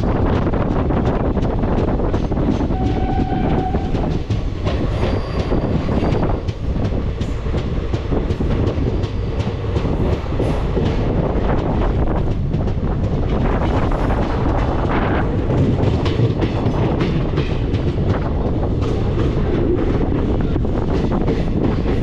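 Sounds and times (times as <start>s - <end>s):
train rumble: 0.0s - 22.0s
wheels clacking over rail joints: 0.0s - 22.0s.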